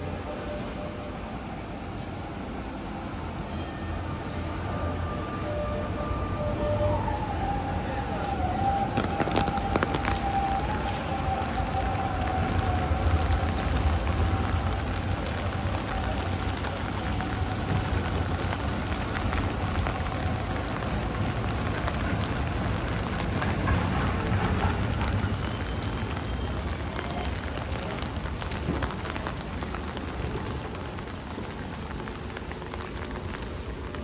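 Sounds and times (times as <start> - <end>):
heavy rain hissing: 0.0 - 34.0
rain drops ticking: 0.0 - 34.0.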